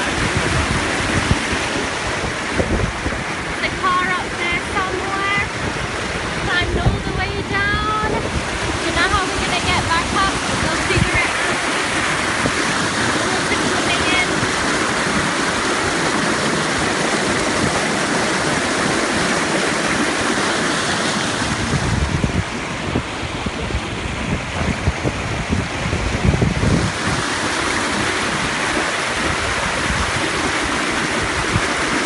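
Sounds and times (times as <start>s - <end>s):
low buffeting rumbles: 0.0s - 20.3s, 21.2s - 31.8s
stream rushing over boulders: 0.0s - 32.0s.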